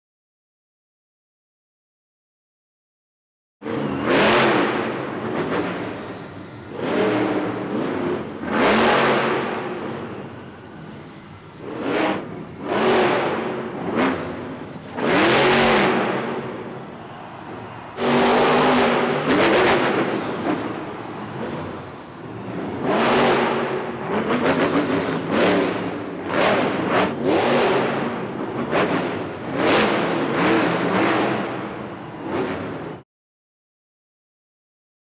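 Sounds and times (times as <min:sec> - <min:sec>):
truck engine revving: 0:03.6 - 0:33.0.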